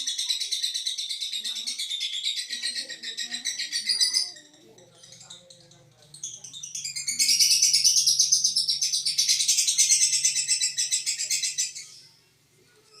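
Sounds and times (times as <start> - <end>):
bird chattering trill: 0.0 - 12.1.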